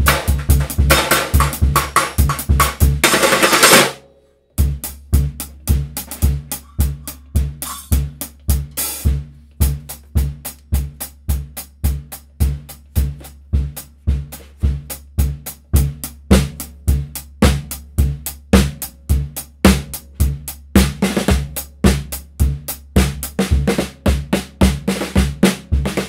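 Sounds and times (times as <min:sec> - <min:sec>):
bass drum and snare beat: 0:00.0 - 0:04.0, 0:04.6 - 0:26.0.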